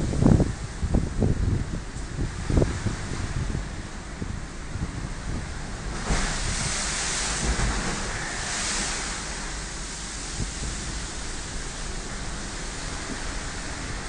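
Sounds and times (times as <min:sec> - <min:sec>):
breaking waves: 0:02.2 - 0:14.0.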